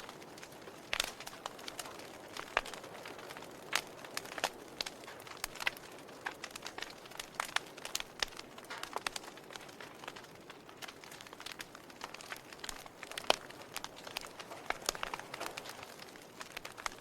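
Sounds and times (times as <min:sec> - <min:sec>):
burning wood popping and snapping: 0:00.0 - 0:17.0
soft hiss of flames: 0:00.0 - 0:17.0.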